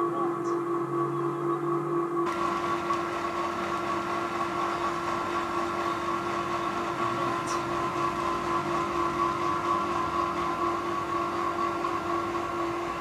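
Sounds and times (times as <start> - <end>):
electric motor whine: 2.3 - 13.0.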